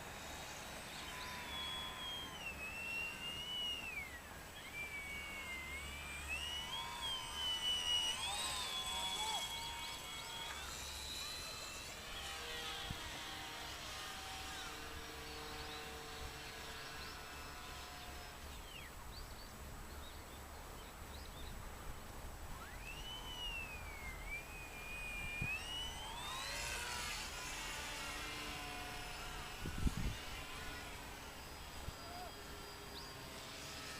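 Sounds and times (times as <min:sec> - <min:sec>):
model airplane motor whine: 0:00.0 - 0:19.0, 0:22.5 - 0:33.9.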